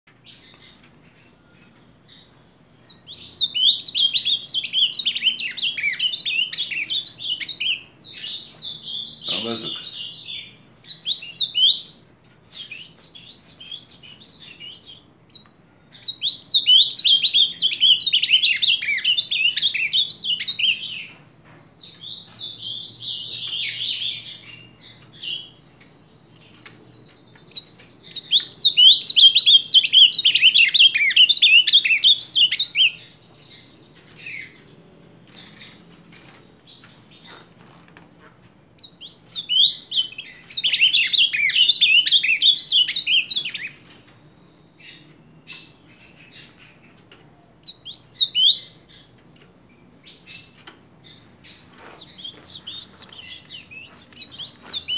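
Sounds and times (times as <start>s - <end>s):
bird singing: 0.1s - 54.9s.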